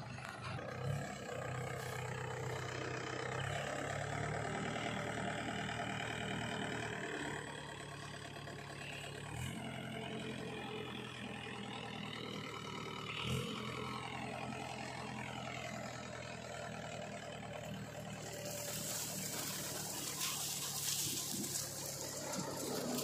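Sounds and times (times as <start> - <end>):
diesel engines idling: 0.0 - 23.0.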